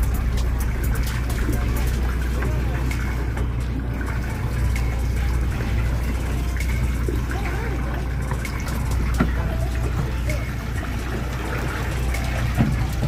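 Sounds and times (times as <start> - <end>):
boat engine drone: 0.0 - 13.0
water washing along hull: 0.0 - 13.0.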